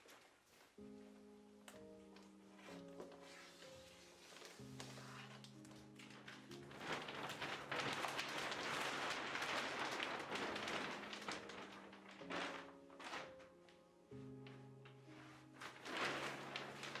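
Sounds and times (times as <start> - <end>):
plastic sheeting rustling: 0.0 - 17.0.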